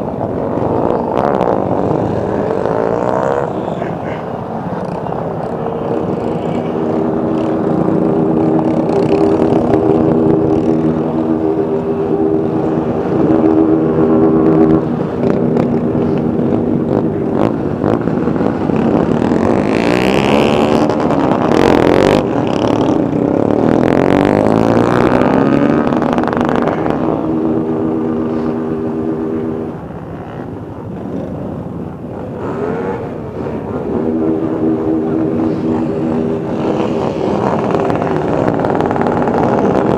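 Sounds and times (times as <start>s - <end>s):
motorcycle engines droning: 0.0s - 39.9s
motorcycles revving and passing: 0.0s - 39.9s.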